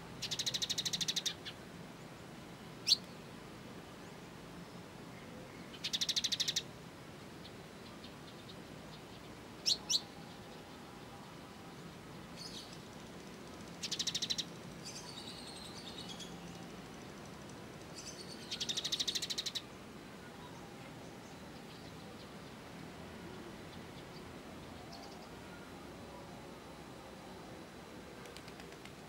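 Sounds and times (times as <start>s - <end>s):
songbird chirping and trilling: 0.1s - 3.4s, 4.0s - 6.7s, 7.3s - 26.7s.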